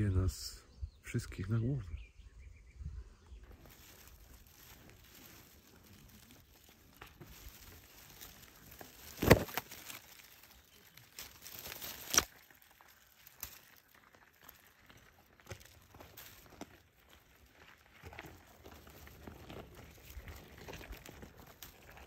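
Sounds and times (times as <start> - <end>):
leaves rustling: 3.4 - 22.0
sharp crackles: 3.4 - 22.0.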